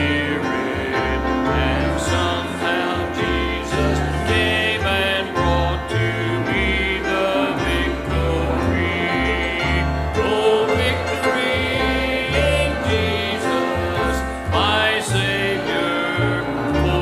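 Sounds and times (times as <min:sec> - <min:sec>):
pulsing bass line: 0:00.0 - 0:17.0
voices singing: 0:00.0 - 0:17.0.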